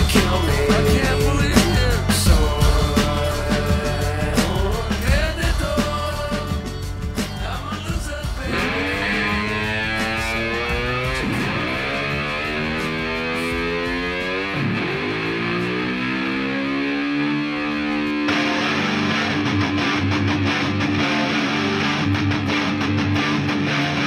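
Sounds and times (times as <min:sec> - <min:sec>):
electric guitar rock music: 0:00.0 - 0:24.0.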